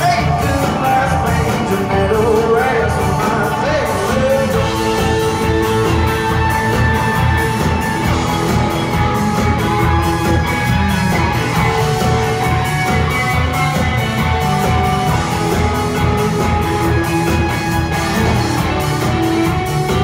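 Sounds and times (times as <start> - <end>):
drum kit steady beat: 0.0 - 20.0
live rock band playing: 0.0 - 20.0.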